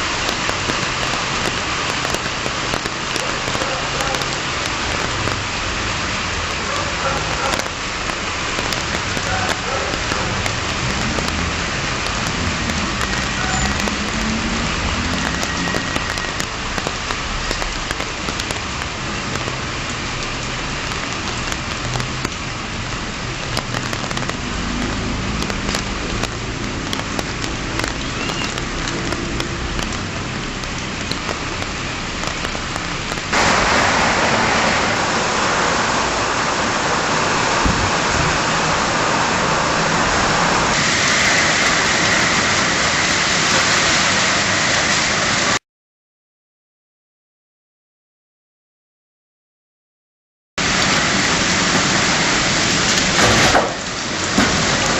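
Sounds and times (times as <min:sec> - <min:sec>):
heavy rain falling: 0:00.0 - 0:45.6, 0:50.6 - 0:54.9.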